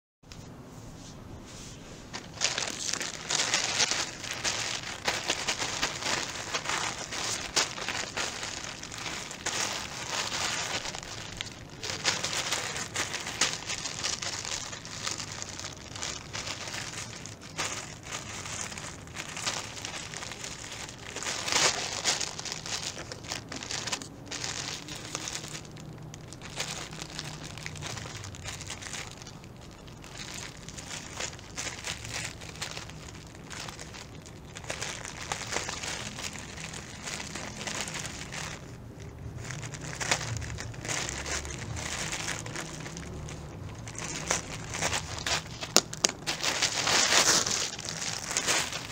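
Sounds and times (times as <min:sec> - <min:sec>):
plastic mailer bag crinkling: 0:02.1 - 0:48.9.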